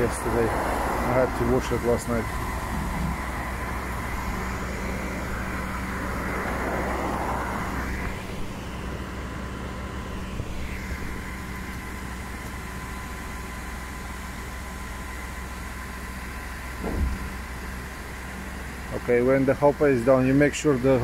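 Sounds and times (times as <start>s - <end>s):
steady whine: 0.0s - 21.0s
truck engine and hydraulics humming: 0.0s - 21.0s.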